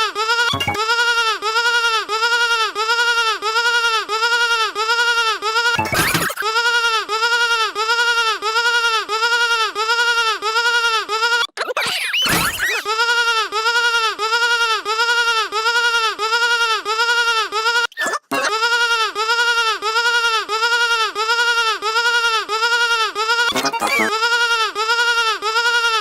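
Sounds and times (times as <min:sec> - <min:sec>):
electronic bleating sheep effect: 0:00.0 - 0:26.0.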